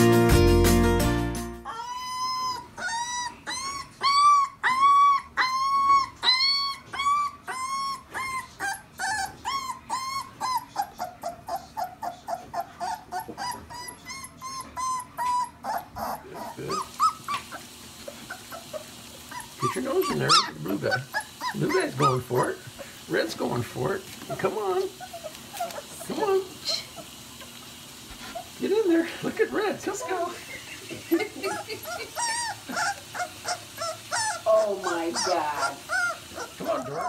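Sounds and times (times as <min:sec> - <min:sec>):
puppy whining: 0:01.6 - 0:23.5, 0:24.2 - 0:28.8, 0:29.8 - 0:37.0.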